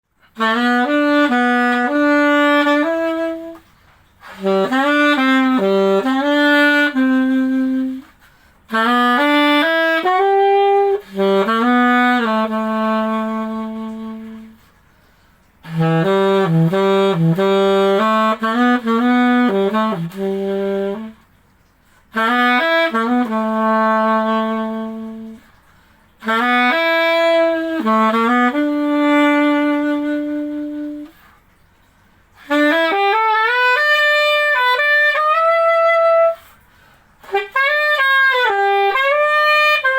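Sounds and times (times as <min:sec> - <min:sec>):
solo saxophone melody: 0:00.0 - 0:39.9.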